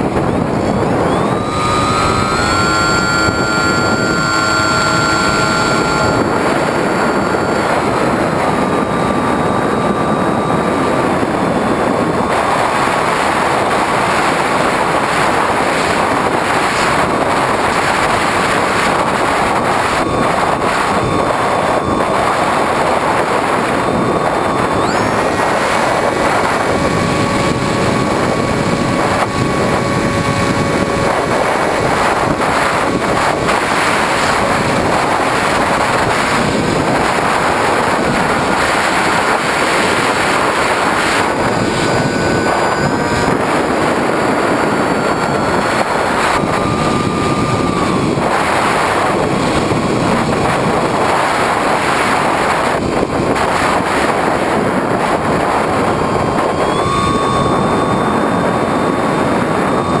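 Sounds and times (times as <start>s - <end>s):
electric motor and propeller whine: 0.0s - 60.0s
wind rush: 0.0s - 60.0s.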